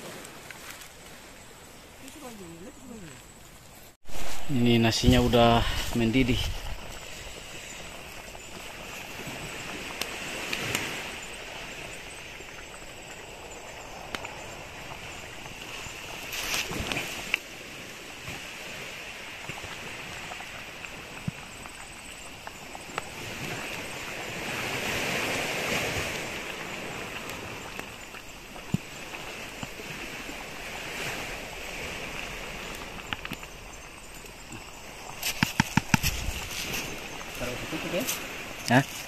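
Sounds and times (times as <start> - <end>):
surf washing onto beach: 0.0 - 3.2, 4.1 - 39.0.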